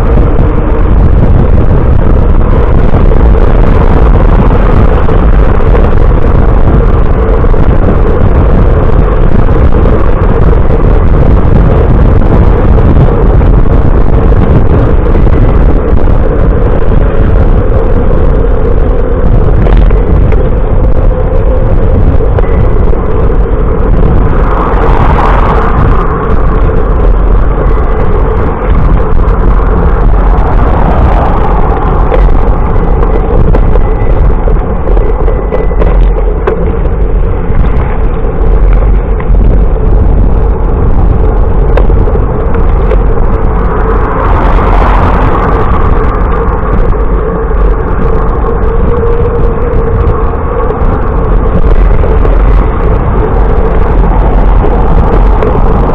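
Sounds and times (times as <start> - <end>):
road noise: 0.0 - 55.9
wind rumble on microphone: 0.0 - 55.9.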